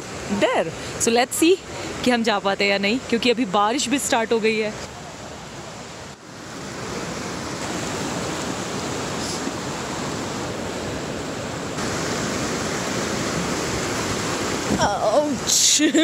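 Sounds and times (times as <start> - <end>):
river rushing over boulders: 0.0 - 16.0.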